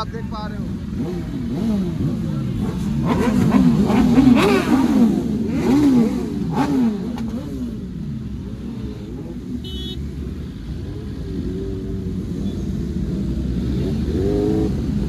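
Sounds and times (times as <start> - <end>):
engines idling: 0.0 - 15.0
motorcycle engines revving: 0.0 - 15.0.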